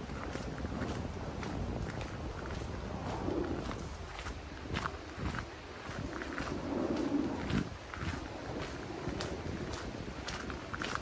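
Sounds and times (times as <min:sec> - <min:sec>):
footsteps on wooden boardwalk: 0:00.0 - 0:11.0
outdoor background noise: 0:00.0 - 0:11.0.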